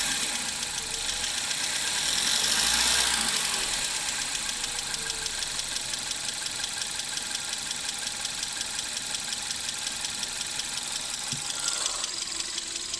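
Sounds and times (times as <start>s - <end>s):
engine idling with knocking: 0.0s - 12.9s.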